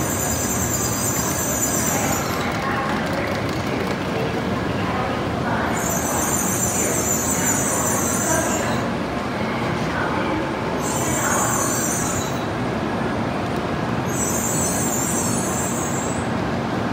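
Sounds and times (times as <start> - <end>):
train rumbling: 0.0 - 16.9.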